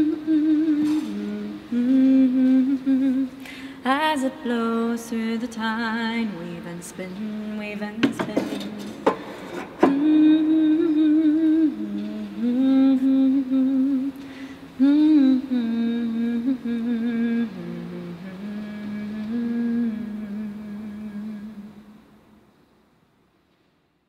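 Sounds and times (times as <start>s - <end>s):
person humming a slow tune: 0.0s - 9.0s, 9.8s - 22.0s.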